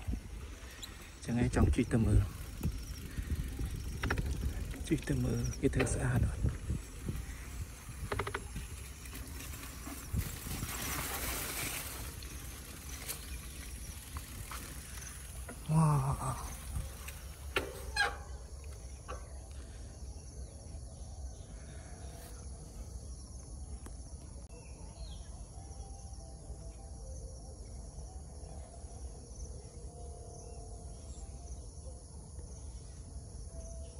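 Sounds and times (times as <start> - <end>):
insects chirring: 0.0 - 33.9.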